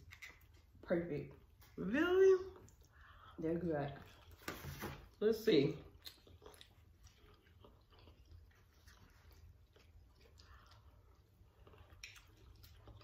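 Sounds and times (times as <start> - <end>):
faint chewing: 0.0 - 1.8, 2.4 - 5.2, 5.8 - 13.0.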